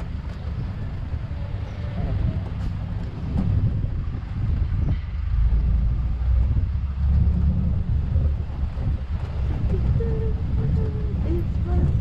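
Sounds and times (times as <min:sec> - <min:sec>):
buggy moving: 0:00.0 - 0:12.0
wind buffeting microphone: 0:00.0 - 0:12.0.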